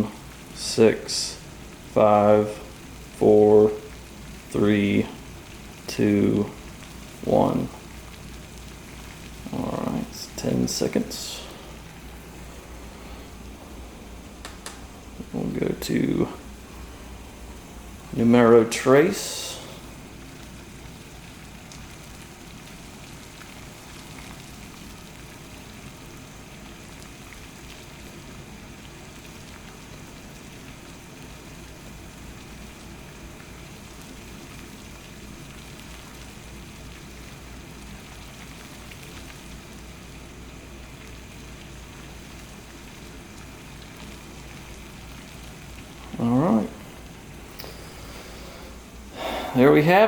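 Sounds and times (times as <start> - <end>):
water boiling in a pot: 0.0 - 50.0.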